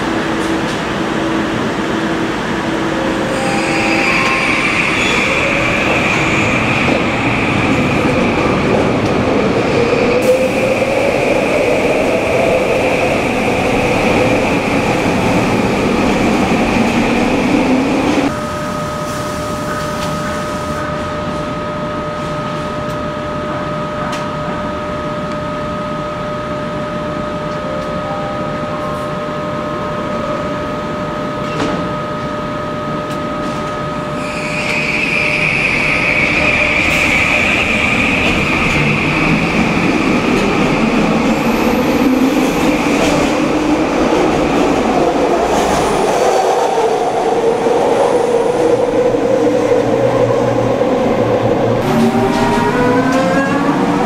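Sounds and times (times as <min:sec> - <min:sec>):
metro train whine: 0:00.0 - 0:54.0.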